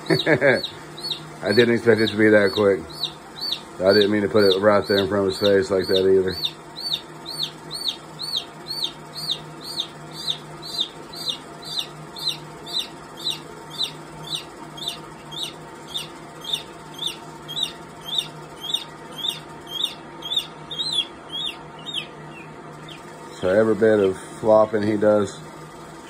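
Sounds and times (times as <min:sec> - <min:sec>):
chick peeping in distress: 0:00.1 - 0:23.5.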